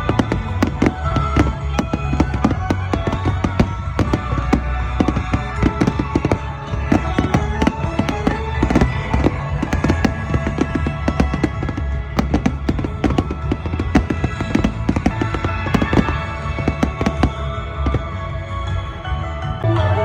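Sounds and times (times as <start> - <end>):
fireworks bangs and crackles: 0.0 - 19.6
music: 0.0 - 20.0.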